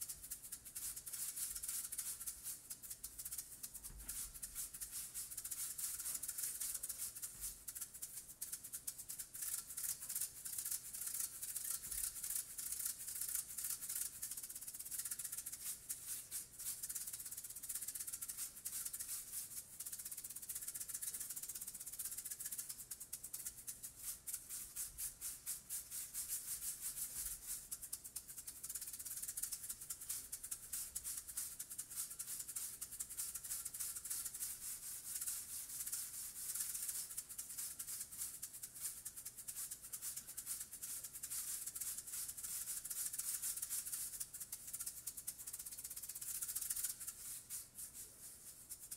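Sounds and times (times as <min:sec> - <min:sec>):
maracas shaking: 0:00.0 - 0:48.9.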